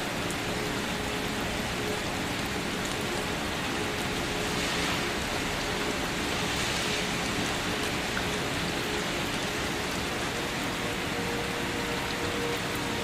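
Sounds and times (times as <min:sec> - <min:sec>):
steady rain patter: 0:00.0 - 0:13.0.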